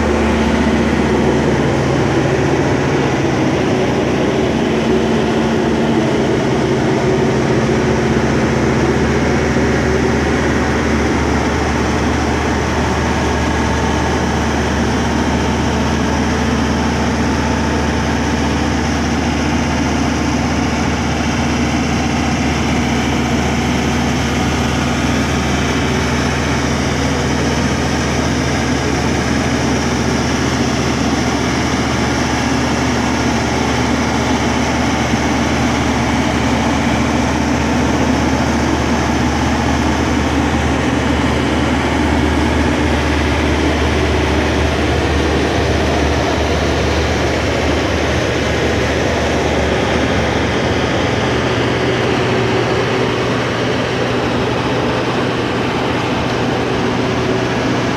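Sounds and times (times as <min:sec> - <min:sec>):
diesel generator humming: 0:00.0 - 0:57.9.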